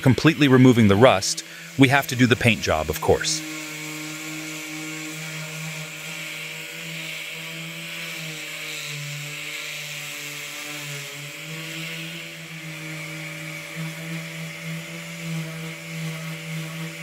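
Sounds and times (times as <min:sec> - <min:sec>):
power tool grinding metal: 0:00.0 - 0:17.0.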